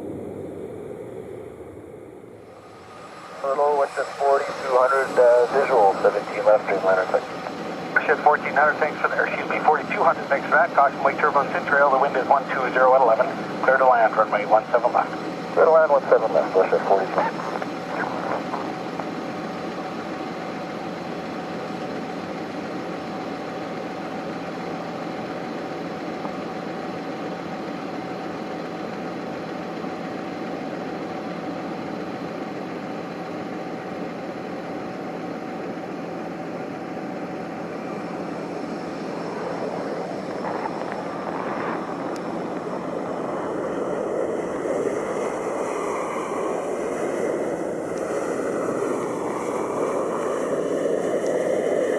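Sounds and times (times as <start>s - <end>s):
jet airliner engines: 0.0s - 51.9s.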